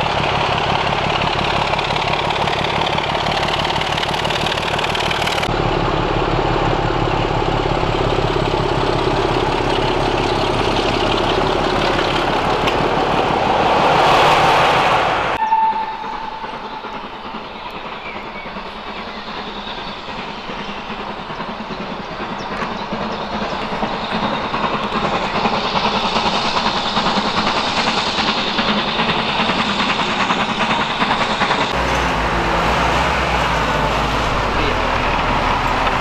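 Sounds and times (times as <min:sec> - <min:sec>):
steam locomotive approaching: 0:00.0 - 0:36.0
train passing close by: 0:00.0 - 0:36.0.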